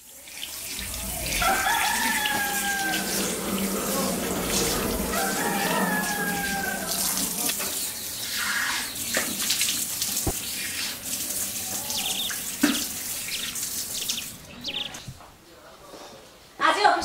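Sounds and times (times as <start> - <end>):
tap water running into basin: 0.0 - 14.6
water splashing on face: 0.3 - 14.5.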